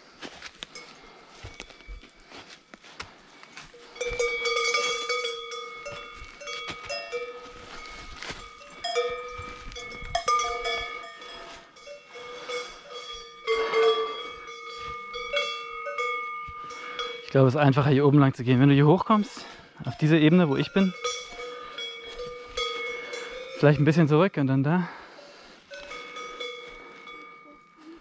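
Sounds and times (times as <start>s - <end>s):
cattle bells clanking: 0.6s - 2.3s, 3.4s - 28.0s.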